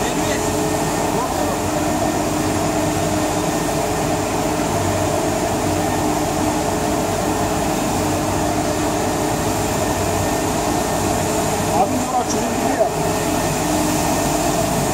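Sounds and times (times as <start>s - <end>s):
industrial vacuum cleaner running: 0.0s - 14.9s.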